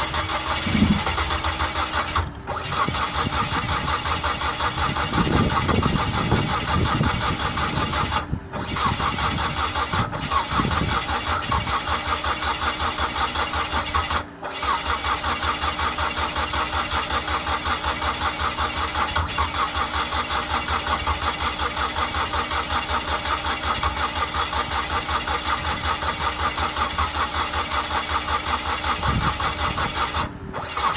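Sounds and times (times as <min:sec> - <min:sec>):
engine cranking without starting: 0:00.0 - 0:30.9.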